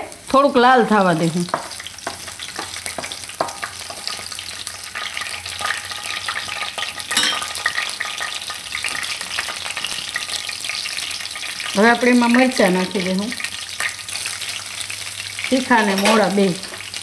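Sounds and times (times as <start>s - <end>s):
garlic sizzling in hot oil: 0.0s - 17.0s.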